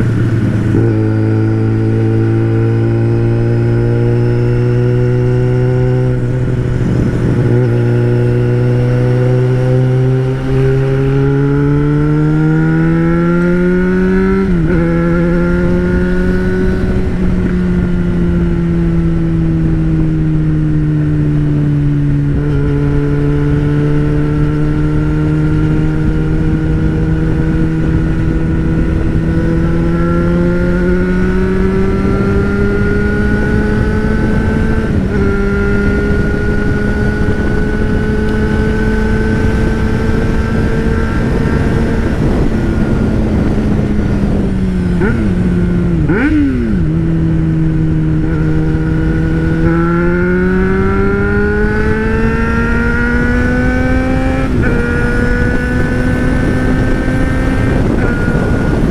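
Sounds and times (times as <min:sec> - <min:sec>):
motorcycle engine under load: 0:00.0 - 0:58.9
wind rush on microphone: 0:00.0 - 0:58.9.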